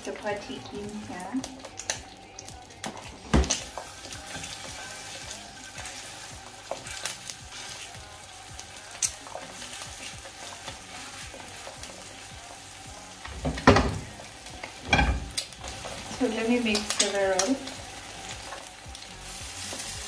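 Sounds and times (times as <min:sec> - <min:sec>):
oil sizzling in a frying pan: 0:00.0 - 0:20.0.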